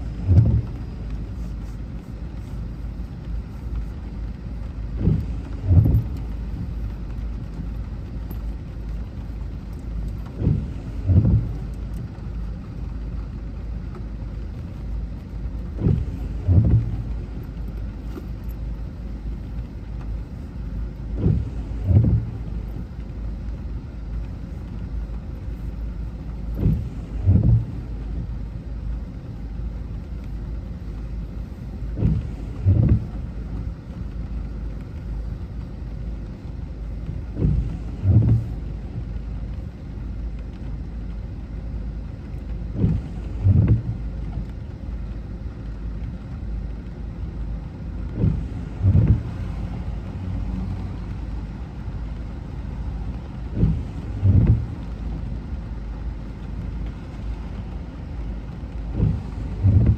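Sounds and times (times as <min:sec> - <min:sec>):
road rumble inside car: 0:00.0 - 0:59.9
windscreen wipers thudding: 0:00.0 - 0:59.9.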